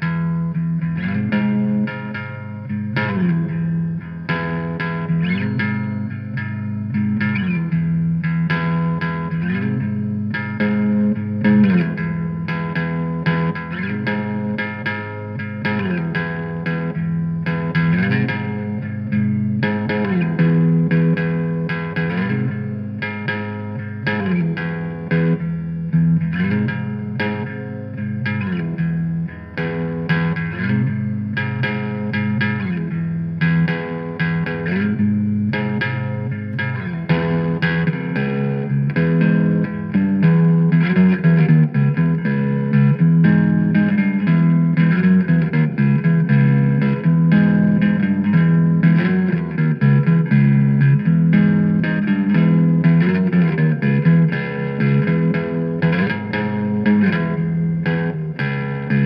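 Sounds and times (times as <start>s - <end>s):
bass guitar: 0.0s - 59.0s
electric guitar surf rock: 0.0s - 59.0s.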